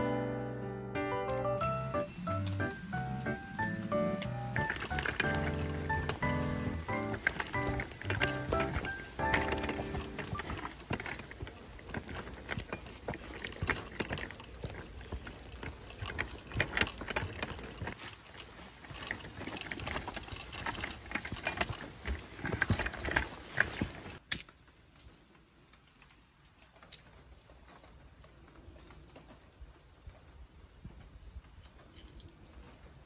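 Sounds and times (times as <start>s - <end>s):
wagon wheels rattling on dirt: 1.3s - 24.2s, 26.6s - 33.0s.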